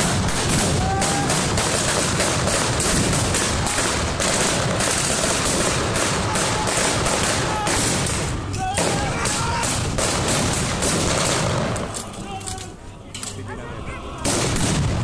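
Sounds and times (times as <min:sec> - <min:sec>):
gunfire: 0:00.0 - 0:11.9, 0:14.2 - 0:15.0.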